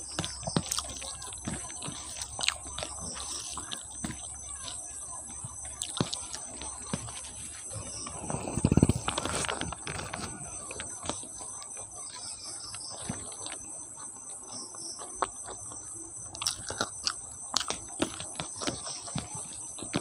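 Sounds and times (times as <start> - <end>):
wet chewing and lip smacks: 0.0 - 4.9, 8.0 - 20.0
fingers squishing rice: 0.0 - 20.0.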